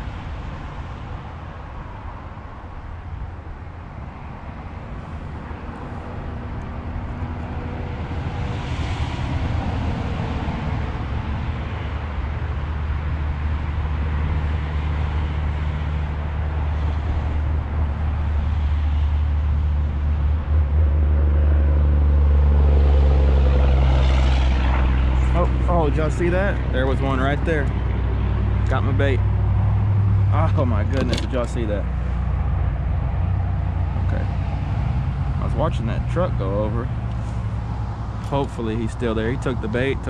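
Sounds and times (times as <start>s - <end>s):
truck engine and tyre rumble: 0.0s - 40.0s.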